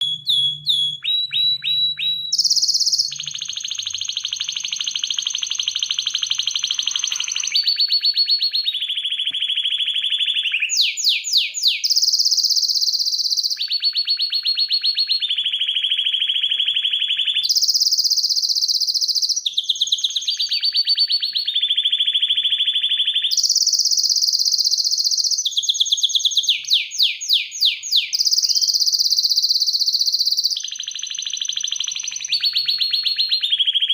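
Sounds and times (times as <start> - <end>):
canary singing trills: 0.0 - 33.9.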